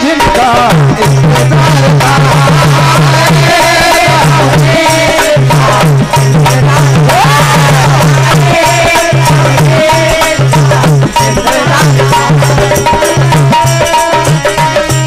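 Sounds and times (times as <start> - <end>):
hand drum beating rhythm: 0.0 - 15.0.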